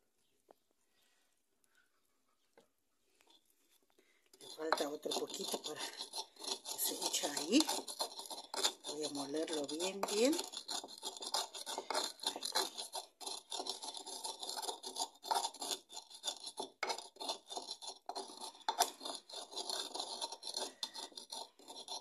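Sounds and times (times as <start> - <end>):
pestle grinding in stone bowl: 4.3 - 22.0.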